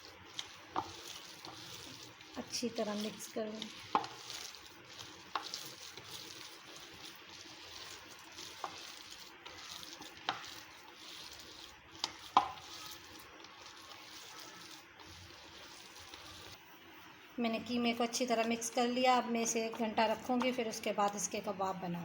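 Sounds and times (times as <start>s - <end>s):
wet mixing of mince in bowl: 0.0s - 16.6s, 17.6s - 21.4s.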